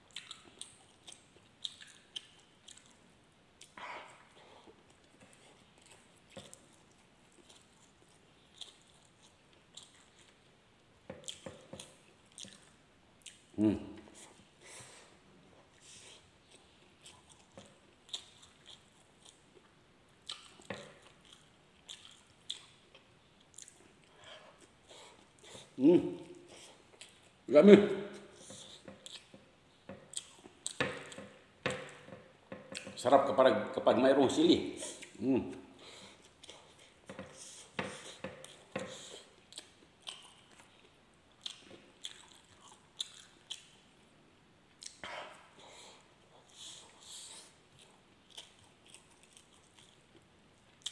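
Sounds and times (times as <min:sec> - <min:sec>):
person chewing food: 0:00.0 - 0:27.4, 0:28.0 - 0:33.1, 0:34.8 - 0:44.0, 0:44.7 - 0:50.9.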